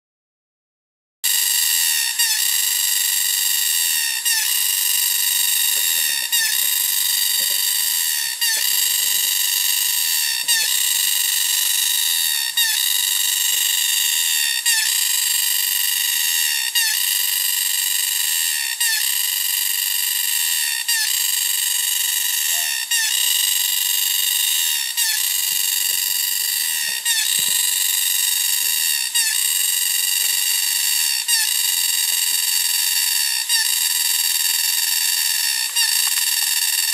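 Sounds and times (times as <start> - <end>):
cicadas buzzing: 1.3 - 36.9.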